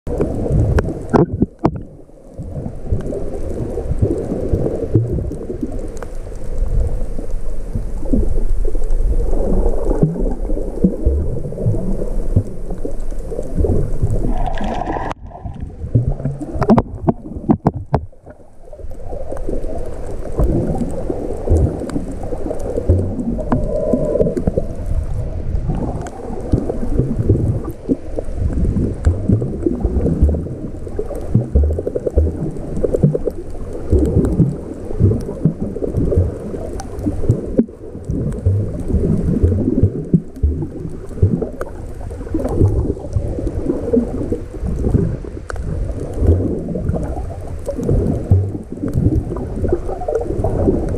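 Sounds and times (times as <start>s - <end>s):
sharp underwater clicks: 0.1s - 50.9s
underwater rumble and gurgle: 0.1s - 50.9s.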